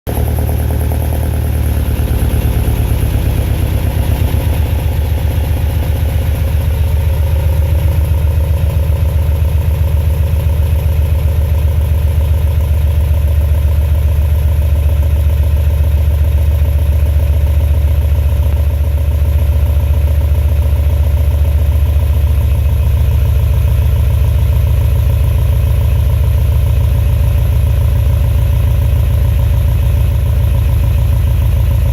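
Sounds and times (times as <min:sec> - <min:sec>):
car engine idling: 0:00.1 - 0:31.9.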